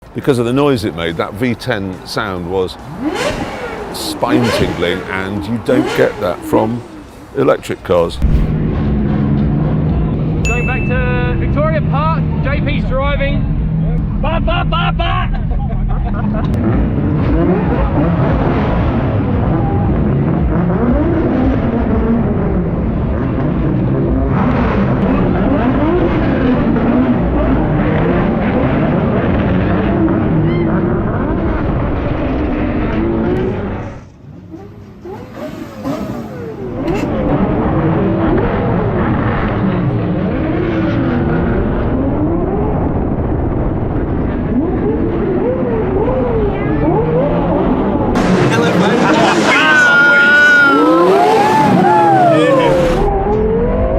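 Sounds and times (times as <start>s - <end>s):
car engine revving: 1.9s - 10.4s, 15.4s - 53.9s.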